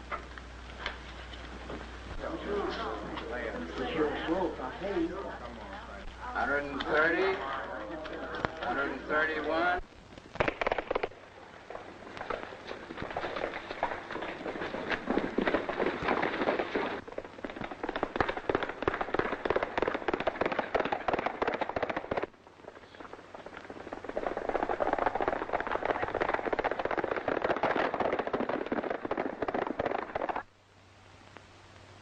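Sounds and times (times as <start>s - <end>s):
galloping horse hooves: 0.0s - 9.8s, 10.4s - 30.5s.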